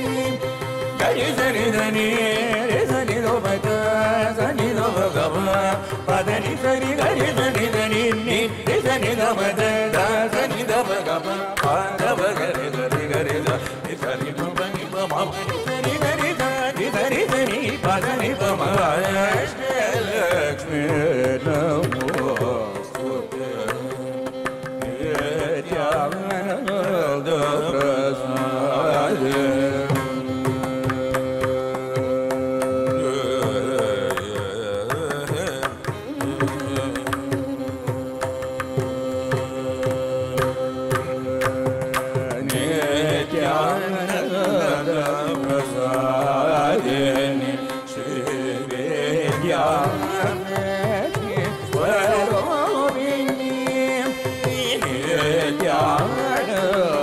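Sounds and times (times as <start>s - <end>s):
men singing: 0.0s - 57.0s
violin accompaniment: 0.0s - 57.0s.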